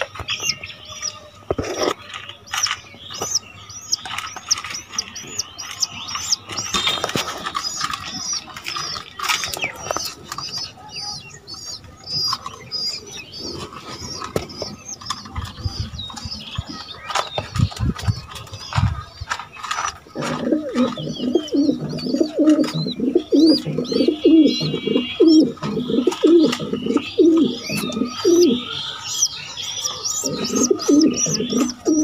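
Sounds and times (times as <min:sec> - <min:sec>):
bird peeping: 0:00.0 - 0:32.0
pigeons knocking and fluttering: 0:00.0 - 0:32.0.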